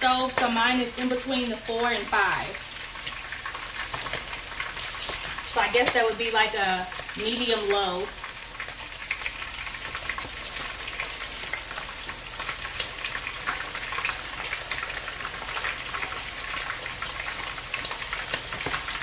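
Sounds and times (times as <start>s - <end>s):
food sizzling in hot oil: 0.0s - 19.0s
oil crackling and popping: 0.0s - 19.0s.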